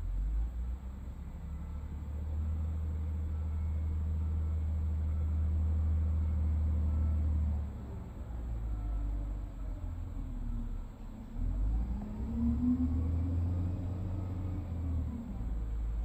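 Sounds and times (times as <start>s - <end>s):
excavator diesel engine droning: 0.0s - 16.0s.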